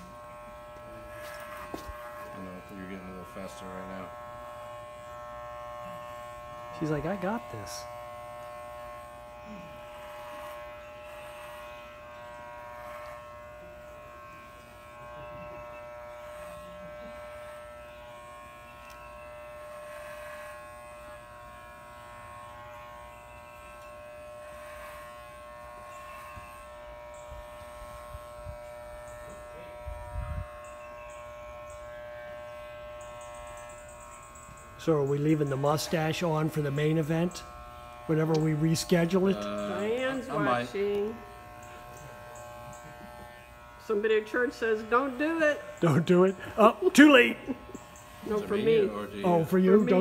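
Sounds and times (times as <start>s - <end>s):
electric hair clippers buzzing: 0.0s - 50.0s.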